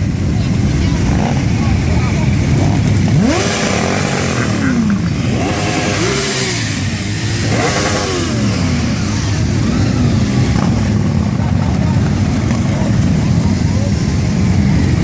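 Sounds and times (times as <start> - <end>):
motorcycle engines revving and passing: 0.0 - 15.0.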